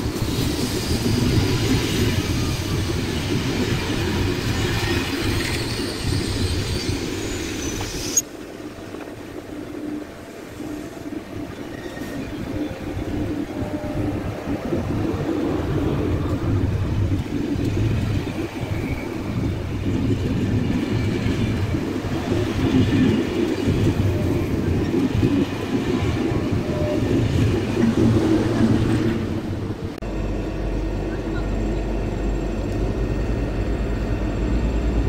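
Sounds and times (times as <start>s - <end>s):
train wheels on rails: 0.0s - 35.0s.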